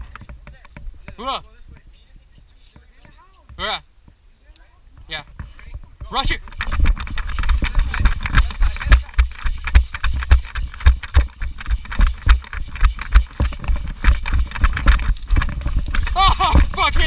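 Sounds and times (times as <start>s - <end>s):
running footsteps: 0.0s - 4.2s, 4.9s - 17.0s.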